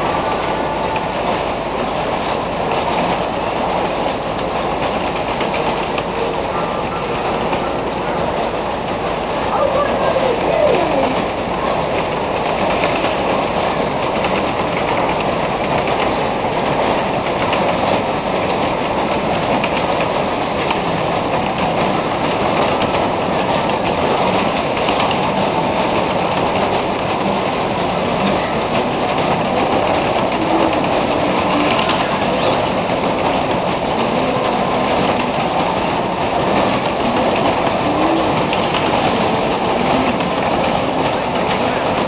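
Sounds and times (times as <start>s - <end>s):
fairground ride rumbling and rattling: 0.0s - 42.0s.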